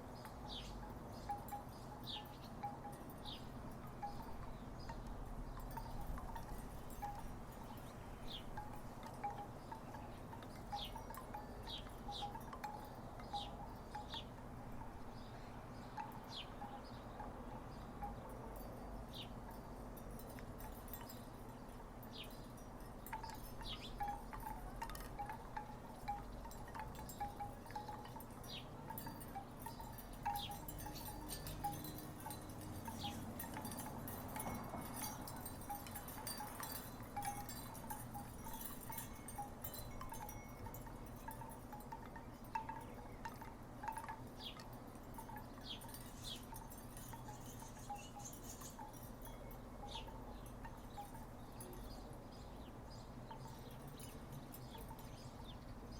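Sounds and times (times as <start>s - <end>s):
wooden wind chimes clacking: 0.0s - 55.9s.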